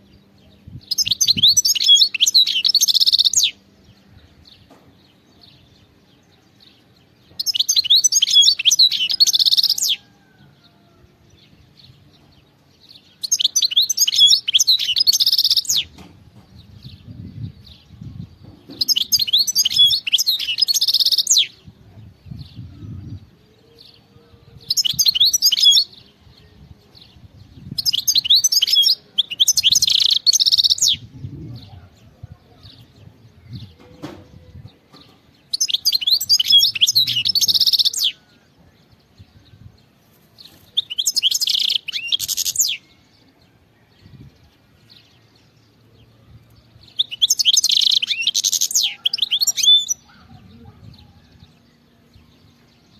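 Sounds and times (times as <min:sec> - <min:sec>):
goldfinch twittering song: 0:00.1 - 0:43.3.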